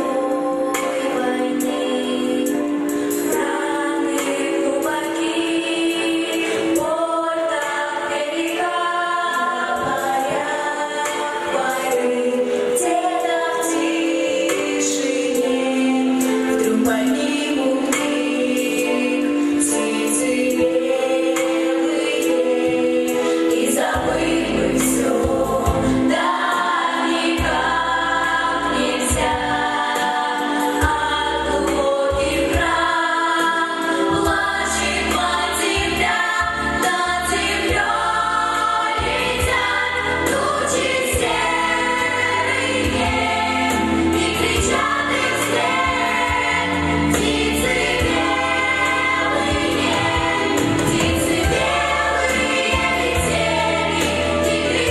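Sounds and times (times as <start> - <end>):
instrumental accompaniment: 0.0 - 54.9
vocal ensemble singing: 0.0 - 54.9.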